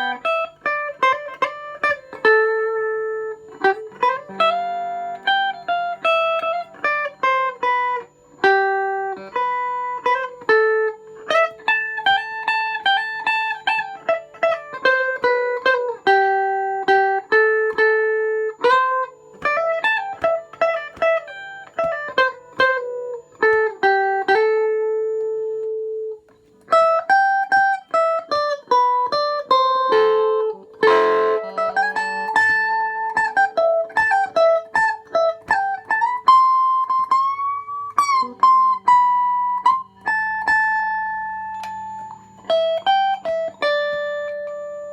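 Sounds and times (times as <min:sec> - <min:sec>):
electric guitar melody: 0:00.0 - 0:44.9
scratchy guitar strum: 0:00.0 - 0:44.9.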